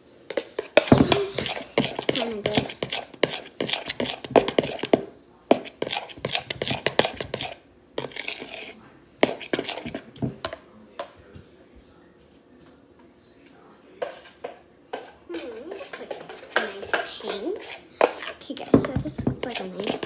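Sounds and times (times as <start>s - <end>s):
utensil scraping plastic bowl: 0.3s - 10.6s, 14.0s - 20.0s.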